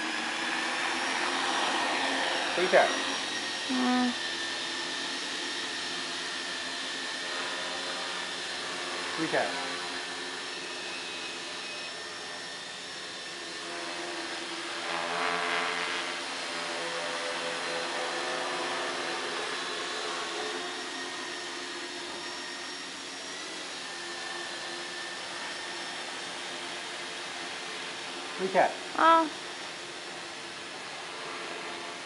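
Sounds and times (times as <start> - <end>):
quadcopter propellers buzzing: 0.0 - 32.0.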